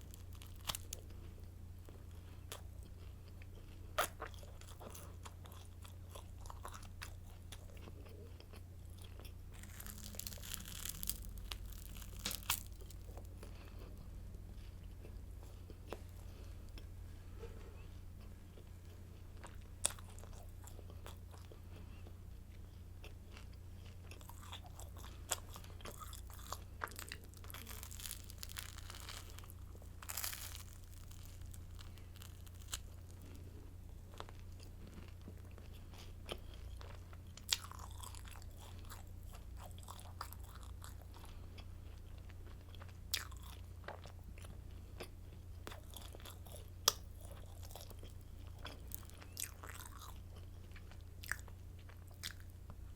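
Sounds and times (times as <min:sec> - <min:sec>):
crunching and chewing bread sticks: 0:00.0 - 0:52.9
steady low hum: 0:00.0 - 0:52.9.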